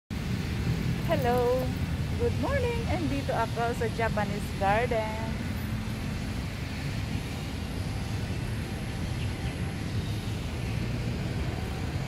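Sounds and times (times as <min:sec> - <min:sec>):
distant city traffic rumble: 0:00.1 - 0:12.0.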